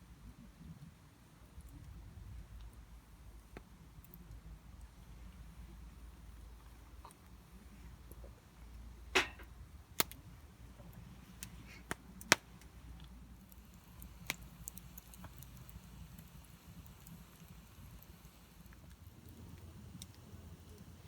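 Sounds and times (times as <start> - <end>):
low steady background: 0.0 - 21.0.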